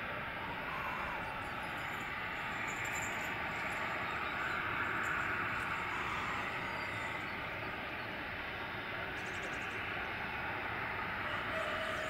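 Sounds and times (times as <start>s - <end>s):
jet engines taxiing: 0.0s - 12.0s.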